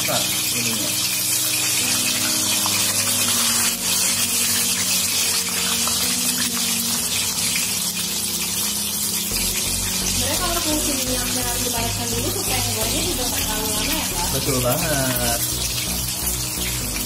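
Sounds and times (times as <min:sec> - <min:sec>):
oil sizzling in deep fryer: 0:00.0 - 0:17.0.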